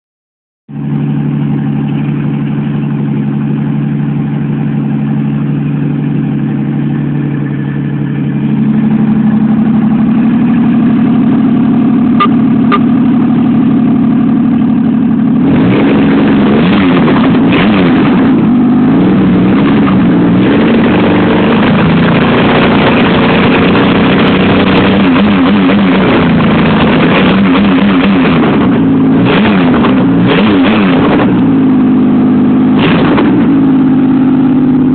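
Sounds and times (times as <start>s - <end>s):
car engine idling and revving: 0.7s - 34.9s.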